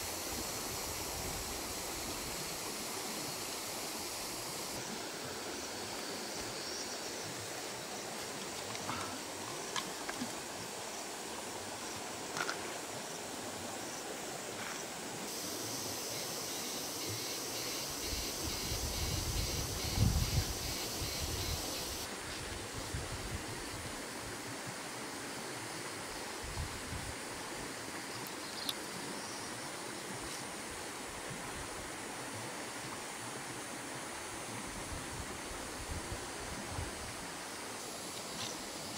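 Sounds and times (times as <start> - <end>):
running water hiss: 0.0 - 38.9.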